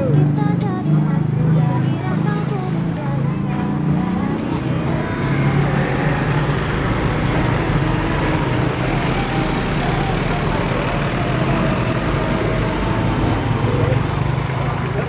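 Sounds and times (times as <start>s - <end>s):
street traffic noise: 0.0s - 15.0s
vehicle engines humming: 0.0s - 15.0s.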